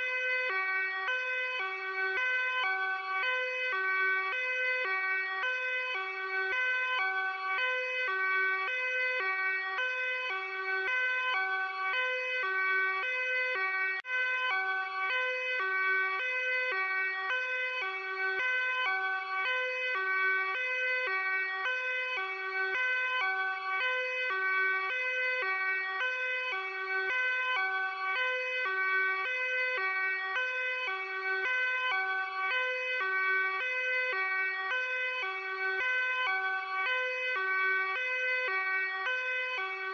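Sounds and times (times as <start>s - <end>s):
two-tone police siren: 0.0s - 39.9s.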